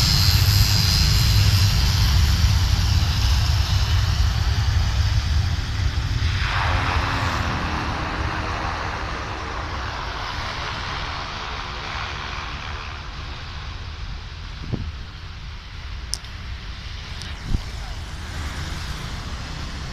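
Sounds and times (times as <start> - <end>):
propeller aeroplane engines passing: 0.0 - 19.9.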